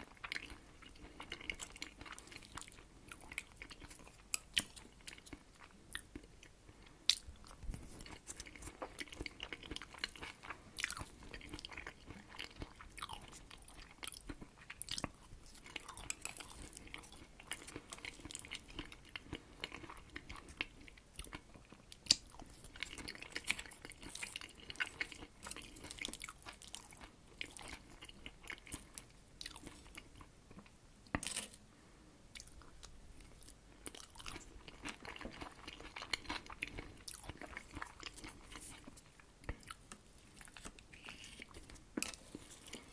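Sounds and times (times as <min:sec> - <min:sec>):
close chewing mouth sounds: 0:00.0 - 0:30.7, 0:32.3 - 0:42.9.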